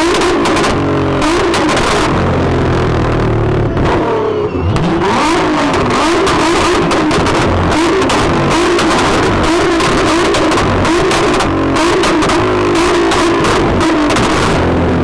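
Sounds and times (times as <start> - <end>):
sports car engine revving: 0.0 - 15.0.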